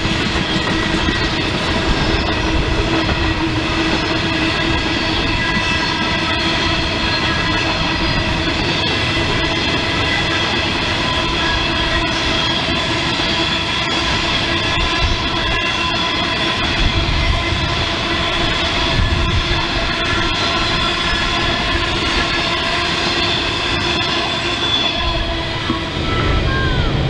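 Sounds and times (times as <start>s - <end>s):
wheels clicking on rail joints: 0.0s - 26.3s
freight train rumbling past: 0.0s - 27.0s
wheels squealing: 0.0s - 27.0s.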